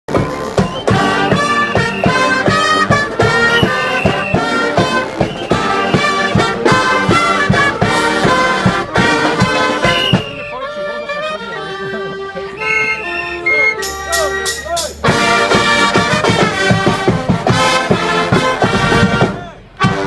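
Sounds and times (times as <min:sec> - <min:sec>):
steady drum beat: 0:00.1 - 0:10.5, 0:13.7 - 0:20.0
trumpets and trombones: 0:00.1 - 0:20.0.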